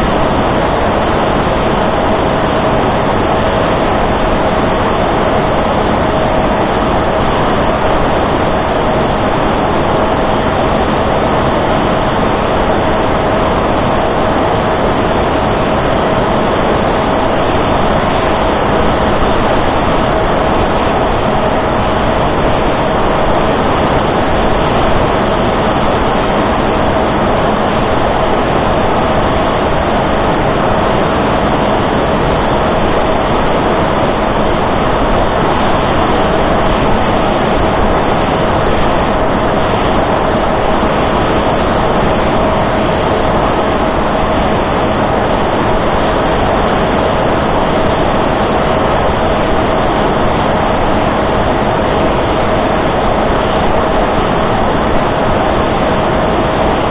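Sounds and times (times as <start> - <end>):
wind rush: 0.0 - 56.9.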